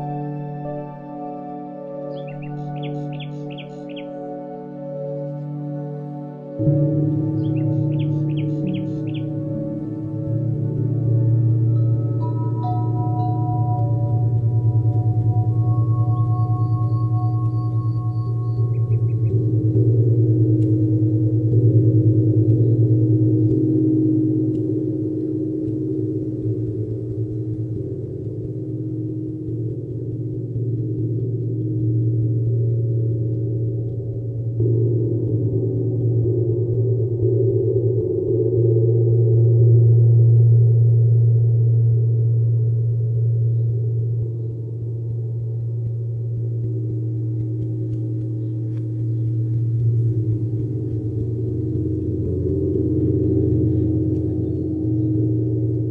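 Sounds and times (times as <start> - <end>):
metal gong hum: 6.6 - 55.9.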